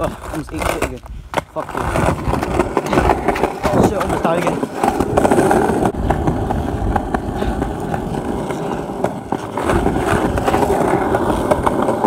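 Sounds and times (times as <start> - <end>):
hoverboard wheels rumbling on concrete: 0.0 - 12.0.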